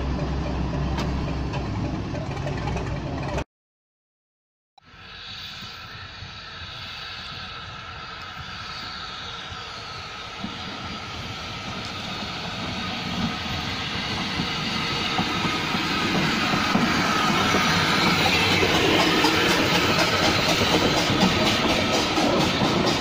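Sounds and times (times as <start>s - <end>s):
steam train approaching: 0.0s - 3.4s, 4.8s - 23.0s.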